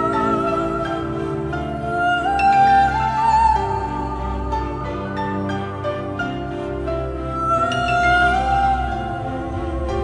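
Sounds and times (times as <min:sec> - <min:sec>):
instrumental soundtrack music: 0:00.0 - 0:10.0.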